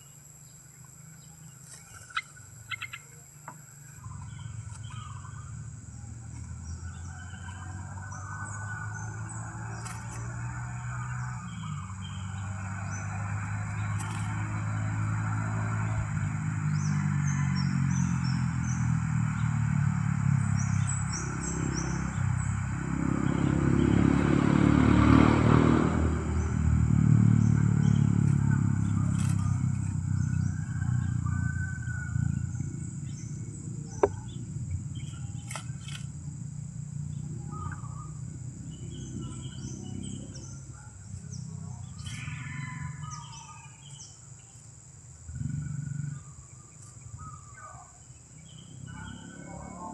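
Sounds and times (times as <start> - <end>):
small birds chirping: 0.0 - 24.4, 26.1 - 49.9
vehicle engine running: 0.0 - 49.9.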